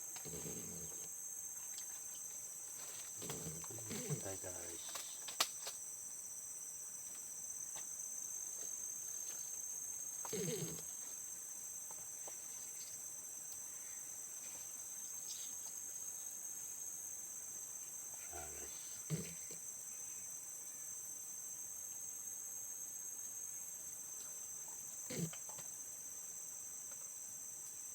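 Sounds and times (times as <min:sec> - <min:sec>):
insect chorus drone: 0:00.0 - 0:27.9.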